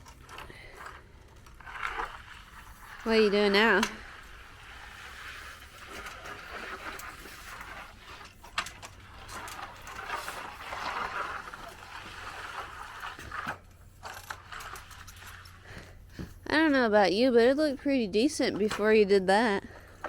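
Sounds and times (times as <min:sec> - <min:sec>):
tool scraping wet concrete: 0:00.3 - 0:20.0.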